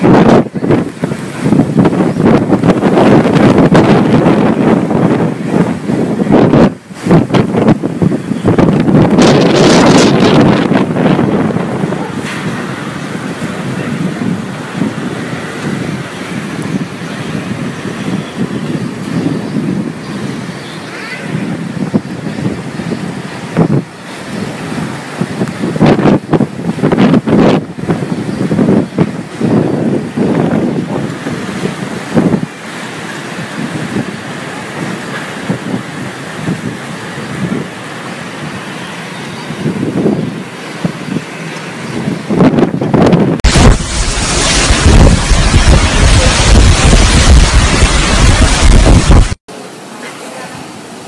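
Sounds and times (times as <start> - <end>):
strong wind buffeting microphone: 0.0 - 49.4.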